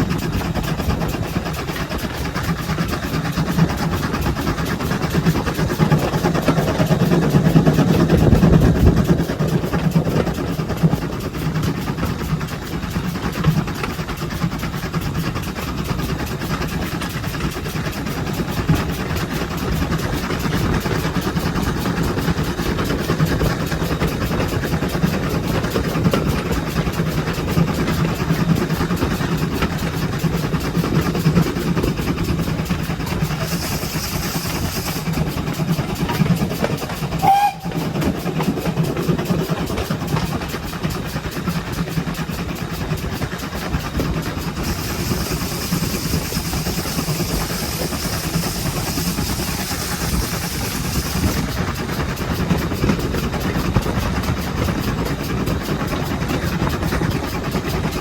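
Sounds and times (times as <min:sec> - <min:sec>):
steam locomotive running: 0:00.0 - 0:58.0
train wheels on rail: 0:00.0 - 0:58.0.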